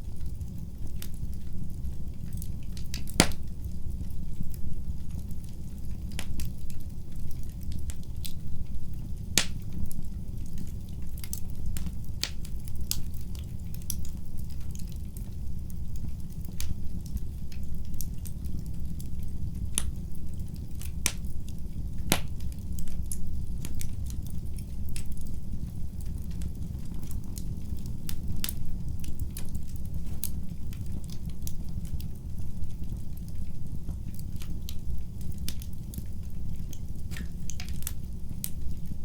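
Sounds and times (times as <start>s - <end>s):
low rumble of fire: 0.0s - 39.0s
wood fire crackling: 0.0s - 39.0s.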